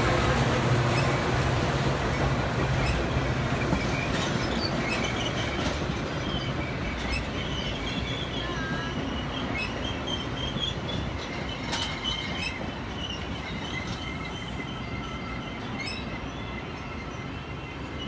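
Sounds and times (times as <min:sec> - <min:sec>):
train wheels rumbling on rails: 0:00.0 - 0:18.0
high wavering wheel squeal: 0:02.8 - 0:18.0.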